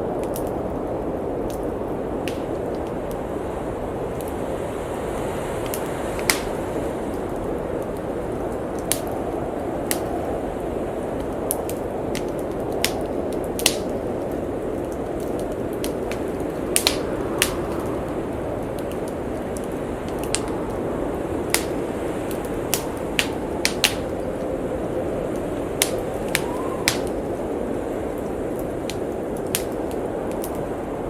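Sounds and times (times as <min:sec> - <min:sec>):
rushing wind: 0:00.0 - 0:31.0
wood fire crackling and popping: 0:00.0 - 0:31.0.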